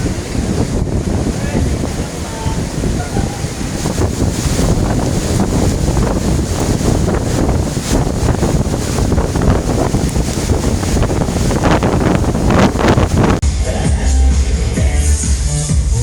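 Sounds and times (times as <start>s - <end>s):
strong wind buffeting microphone: 0.0s - 13.4s.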